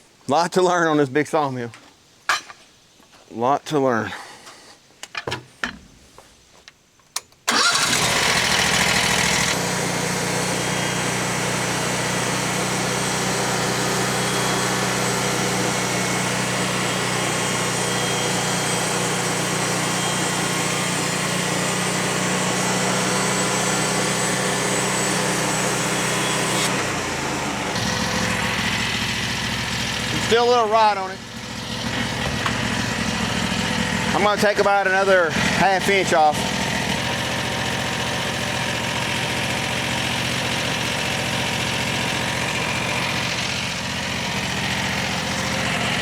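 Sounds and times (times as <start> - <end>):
sawmill engine running: 7.5 - 46.0.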